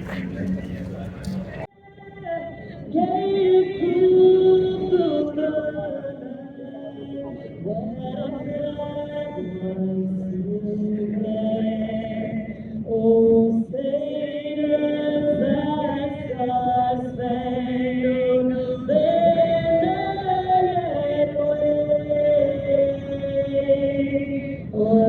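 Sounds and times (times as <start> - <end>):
choir singing sustained chords: 0.0 - 25.0.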